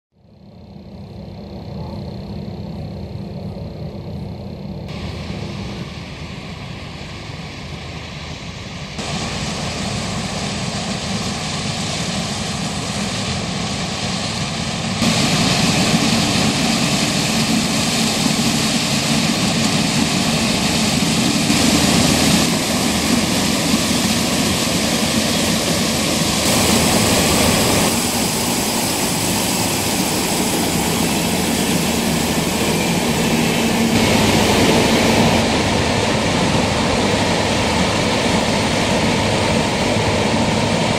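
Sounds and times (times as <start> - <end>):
combine harvester droning: 0.2 - 40.9.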